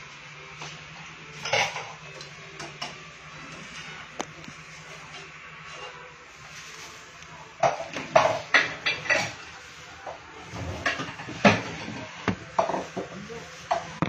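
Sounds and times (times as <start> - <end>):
pots and utensils clattering: 0.6 - 6.8, 7.6 - 14.0.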